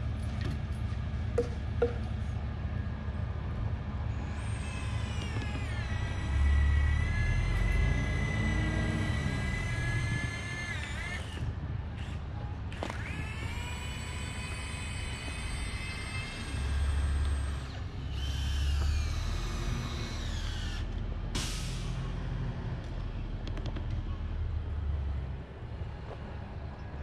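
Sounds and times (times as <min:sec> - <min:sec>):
crane engine with hydraulic whine: 0:00.0 - 0:27.0.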